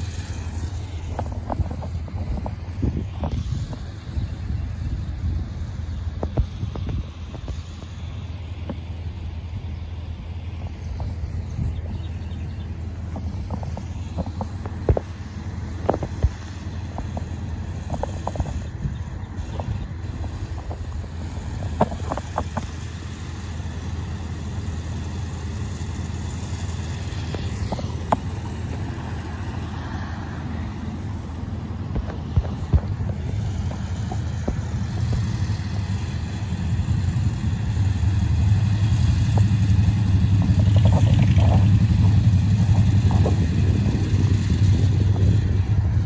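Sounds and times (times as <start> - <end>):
track machine engine humming: 0.0 - 46.0.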